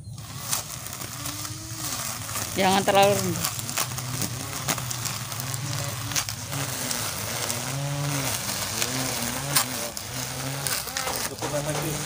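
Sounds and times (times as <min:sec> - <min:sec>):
grass trimmer motor hum: 0:00.0 - 0:12.0.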